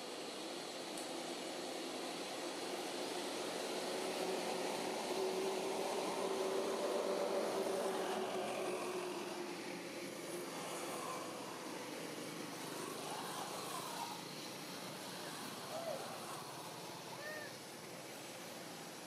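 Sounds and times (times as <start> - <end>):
distant engine drone: 0.0 - 19.0
outdoor background noise: 0.0 - 19.0.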